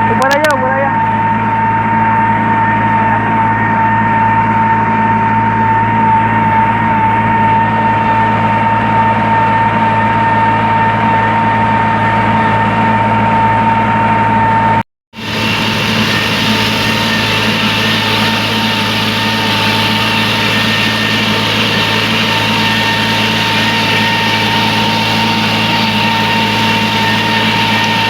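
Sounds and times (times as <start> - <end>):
high whine: 0.0 - 28.0
tractor diesel engine running: 0.0 - 28.0.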